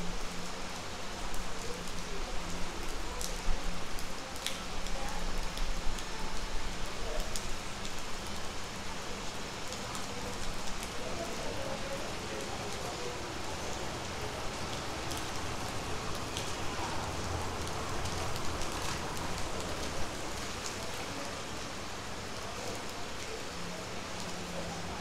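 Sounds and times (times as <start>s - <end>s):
raindrops ticking on surfaces: 0.0s - 25.0s
steady rain hiss: 0.0s - 25.0s.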